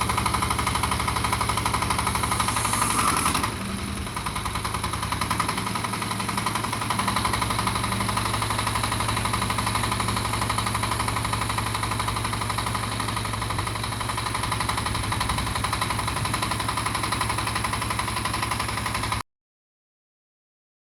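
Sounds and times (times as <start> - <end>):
tractor engine clattering: 0.0 - 19.2.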